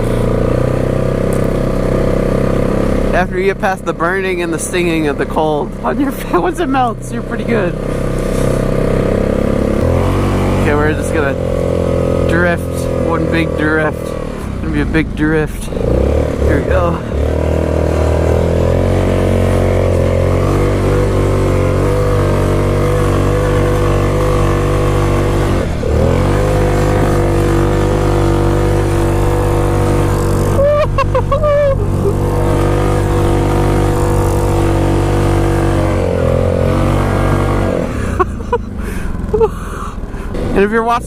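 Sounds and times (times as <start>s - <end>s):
atv engine revving high: 0.0s - 41.0s.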